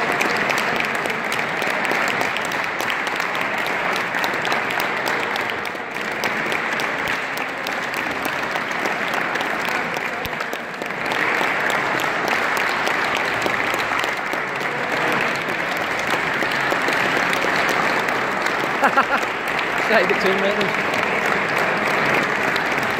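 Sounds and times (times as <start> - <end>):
crowd applauding: 0.0 - 22.9.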